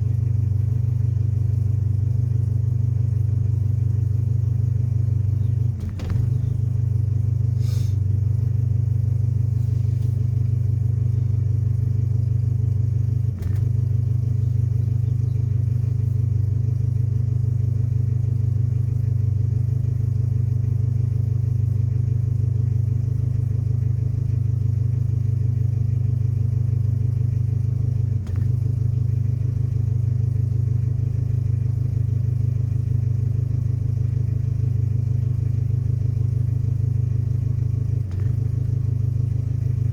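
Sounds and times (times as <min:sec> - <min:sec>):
pickup engine idling: 0:00.0 - 0:39.9.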